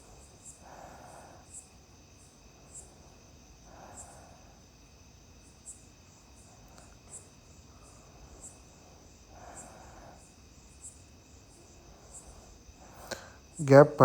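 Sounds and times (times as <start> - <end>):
cricket chirps: 0.0 - 14.0.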